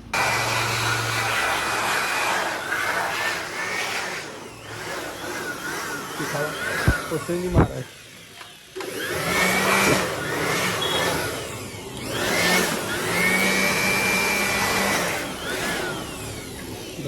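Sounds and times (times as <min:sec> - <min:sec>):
electric air blower whine: 0:00.0 - 0:17.0.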